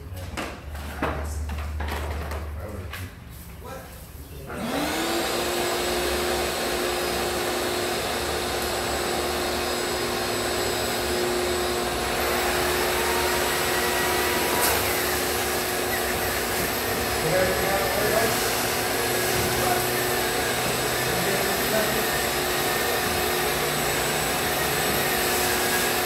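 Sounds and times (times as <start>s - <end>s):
shop vacuum motor running: 4.5s - 26.0s.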